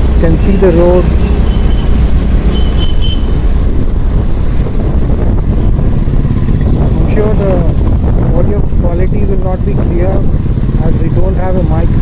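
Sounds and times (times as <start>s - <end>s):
motorcycle engine: 0.0s - 12.0s
road noise: 0.0s - 12.0s
wind buffeting microphone: 0.9s - 12.0s.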